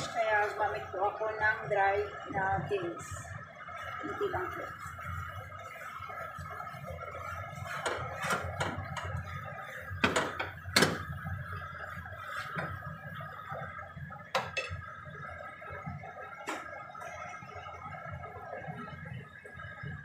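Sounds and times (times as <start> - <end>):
mixture bubbling: 0.0 - 20.0.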